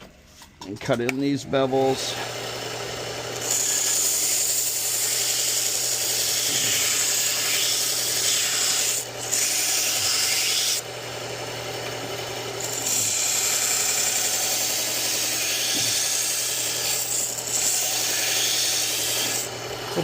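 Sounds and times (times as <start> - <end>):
belt sharpener humming: 1.0 - 20.0.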